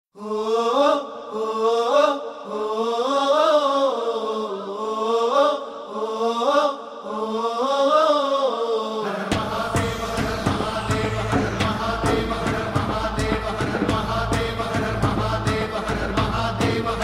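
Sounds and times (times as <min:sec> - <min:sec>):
person singing: 0:00.2 - 0:17.0.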